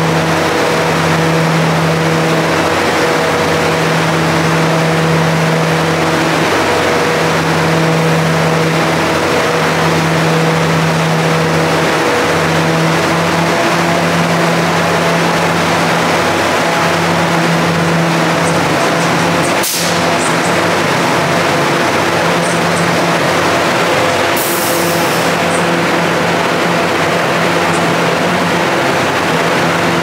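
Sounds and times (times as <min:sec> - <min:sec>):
locomotive diesel engine idling: 0:00.0 - 0:30.0.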